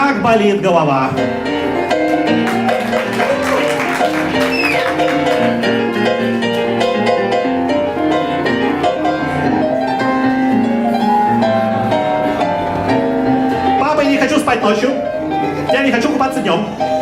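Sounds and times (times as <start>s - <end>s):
blues piano playing: 0.0s - 17.0s.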